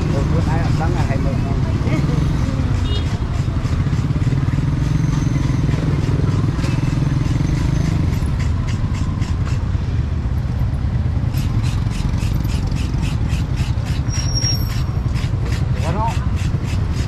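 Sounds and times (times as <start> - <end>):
motorbike engine running: 0.0 - 17.0.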